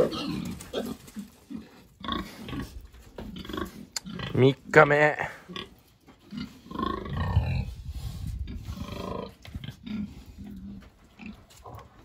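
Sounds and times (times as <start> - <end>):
pigs grunting and growling: 0.0 - 12.0.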